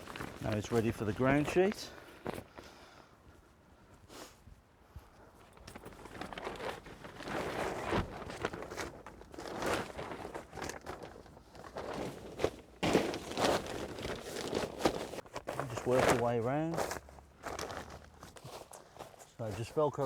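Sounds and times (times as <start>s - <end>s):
fabric groundsheet rustling: 0.0s - 2.4s, 5.4s - 20.0s.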